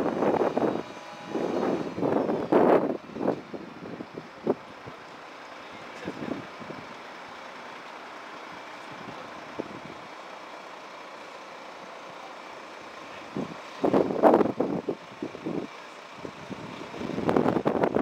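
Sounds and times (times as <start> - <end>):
truck engine and hydraulics running: 0.0 - 18.0.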